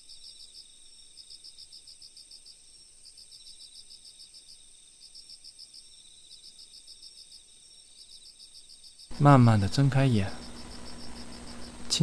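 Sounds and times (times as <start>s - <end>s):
crickets chirping: 0.0s - 12.0s
high insect trill: 0.0s - 12.0s.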